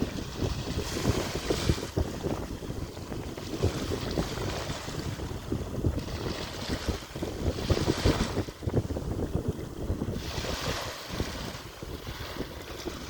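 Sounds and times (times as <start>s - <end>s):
sea waves washing onto beach: 0.0s - 13.0s
wind buffeting microphone: 0.0s - 13.0s.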